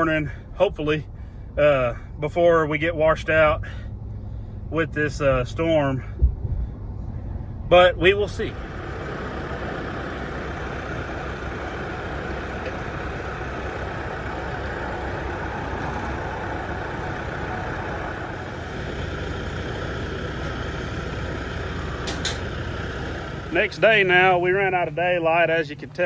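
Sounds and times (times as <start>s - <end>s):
road noise hiss: 0.0s - 26.0s
vehicle engine rumble: 0.0s - 26.0s.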